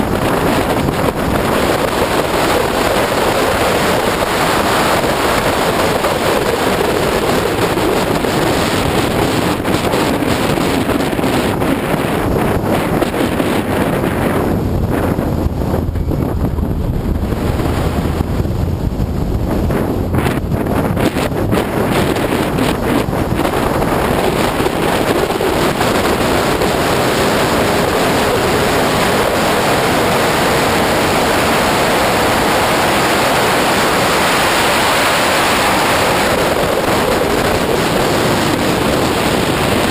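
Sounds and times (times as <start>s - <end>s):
car engine: 0.0s - 39.9s
wind buffeting microphone: 0.0s - 39.9s.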